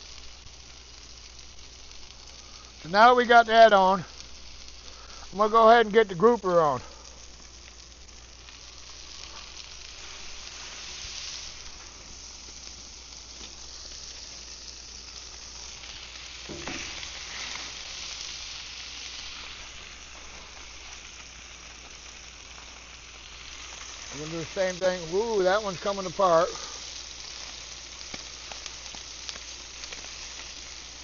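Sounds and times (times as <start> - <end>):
fish sizzling on a grill: 0.0 - 31.0.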